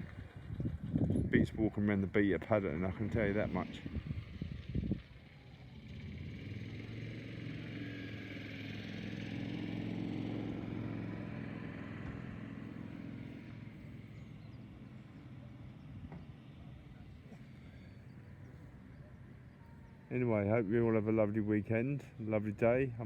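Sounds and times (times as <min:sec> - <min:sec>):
engine passing by: 0:00.0 - 0:23.0.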